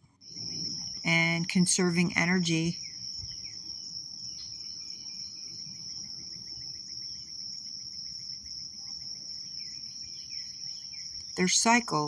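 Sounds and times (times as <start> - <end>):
insects trilling: 0.1 - 12.0.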